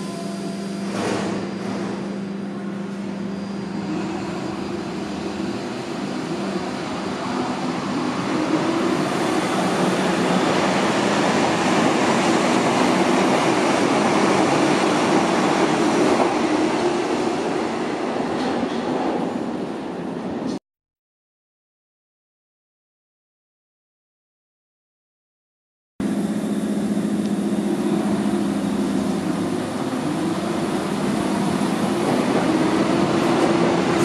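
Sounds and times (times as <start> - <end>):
train motor and wheel noise: 0.0 - 20.6, 26.0 - 34.0.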